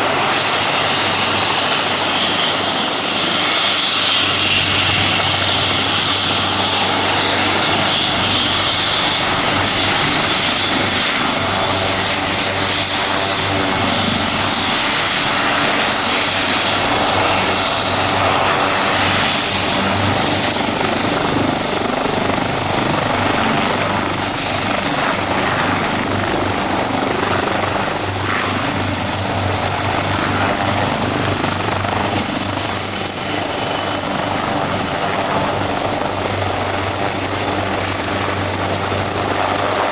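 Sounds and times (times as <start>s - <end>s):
helicopter rotor beat: 0.0s - 39.9s
high whistling turbine whine: 0.0s - 39.9s.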